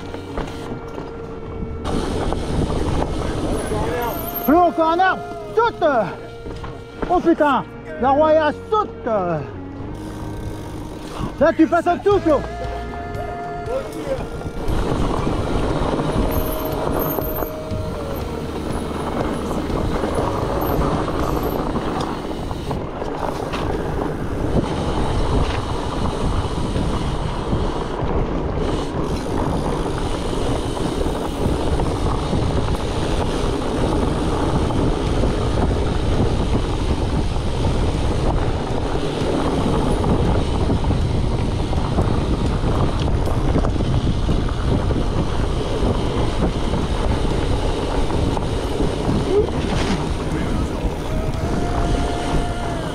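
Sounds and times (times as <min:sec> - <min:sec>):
bike tyres rattling over rough ground: 0:00.0 - 0:07.5, 0:13.8 - 0:52.9
wind rushing over microphone: 0:00.0 - 0:52.9.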